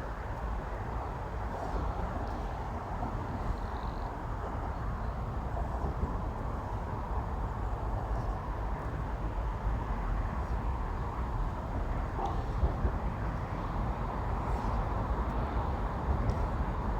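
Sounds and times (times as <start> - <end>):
low rumble of road traffic: 0.0 - 16.9.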